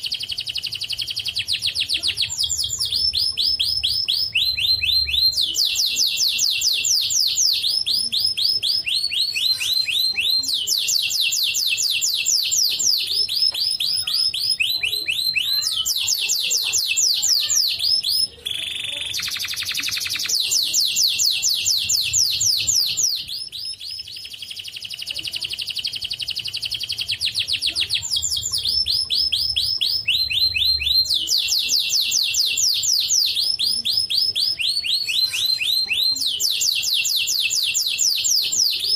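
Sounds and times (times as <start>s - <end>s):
canary singing fast trills: 0.0s - 38.9s.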